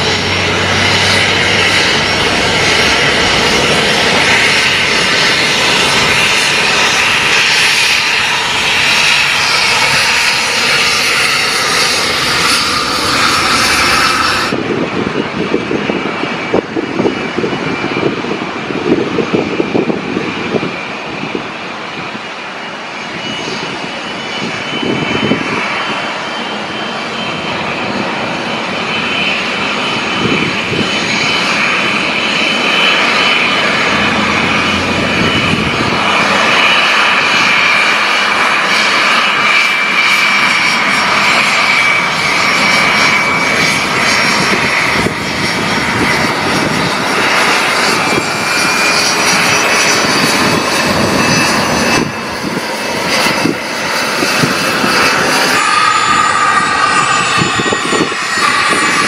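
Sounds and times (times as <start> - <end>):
jet taxiing with high whine: 0.0 - 59.0.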